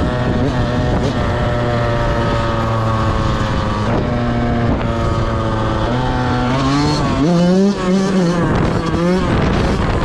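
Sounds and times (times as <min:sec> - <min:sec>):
two-stroke dirt bike engine running: 0:00.0 - 0:10.0.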